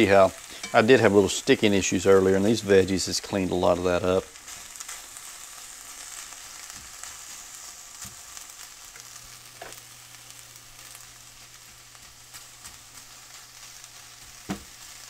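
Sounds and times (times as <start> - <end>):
vegetables sizzling in skillet: 0.0 - 15.0.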